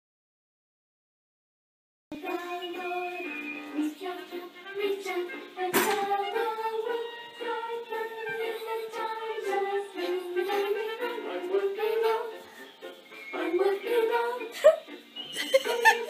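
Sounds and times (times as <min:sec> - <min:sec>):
music with singing voice: 0:02.1 - 0:16.0.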